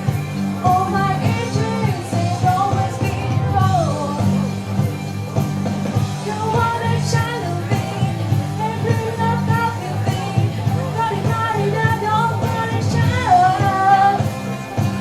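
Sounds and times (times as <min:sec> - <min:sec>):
instrumental accompaniment with bass: 0:00.0 - 0:15.0
vocal group singing: 0:00.0 - 0:15.0.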